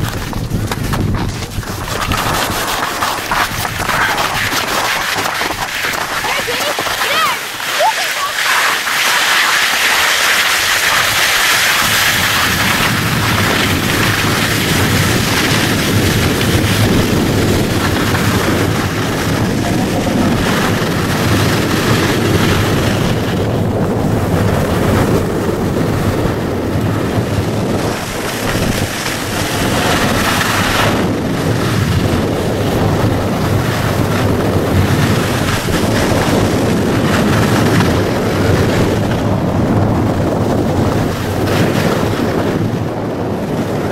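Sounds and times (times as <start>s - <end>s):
skis scraping over snow: 0.0s - 43.8s
wind buffeting microphone: 0.0s - 43.9s.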